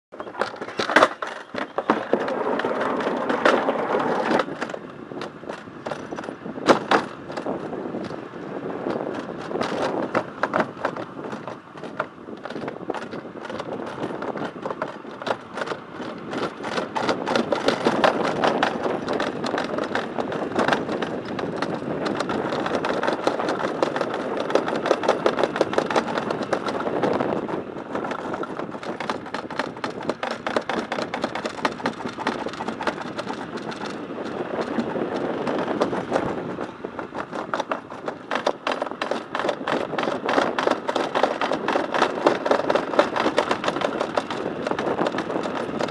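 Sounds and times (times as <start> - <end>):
sled rattling down steel trough: 0.1 - 8.2, 8.8 - 45.9.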